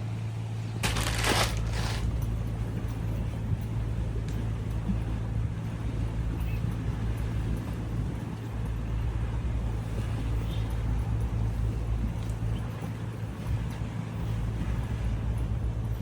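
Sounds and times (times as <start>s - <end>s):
motor vehicle running: 0.6s - 16.0s.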